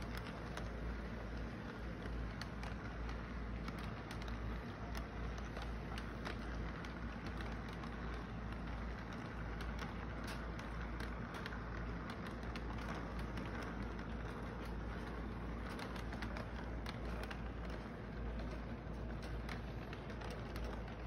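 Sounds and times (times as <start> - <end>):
small clicks: 0.0 - 21.0
toy train rolling on track: 0.0 - 21.0.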